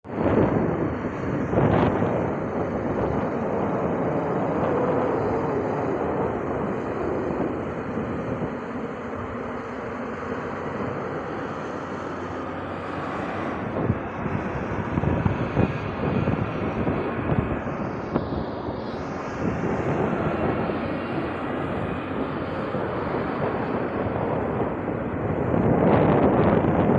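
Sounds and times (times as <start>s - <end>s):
excavator engine running: 0.3s - 24.4s.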